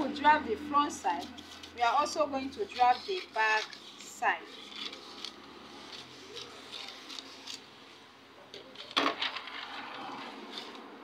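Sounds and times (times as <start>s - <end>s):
paper rustling: 1.2s - 11.0s.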